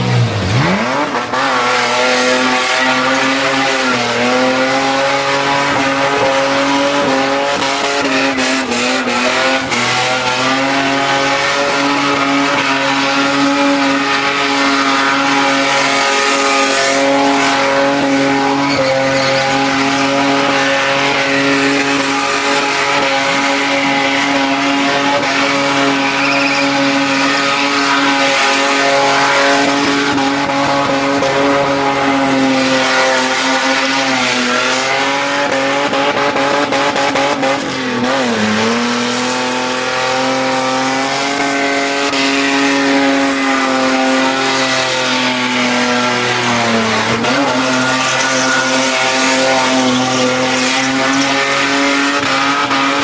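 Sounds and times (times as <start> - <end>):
car engine at high revs: 0.0 - 53.0
tyres screeching: 0.6 - 39.1, 41.3 - 53.0.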